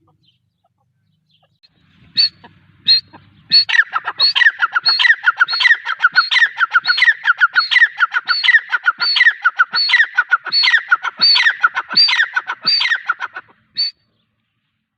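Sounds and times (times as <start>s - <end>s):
francolin calling: 0.0s - 14.0s.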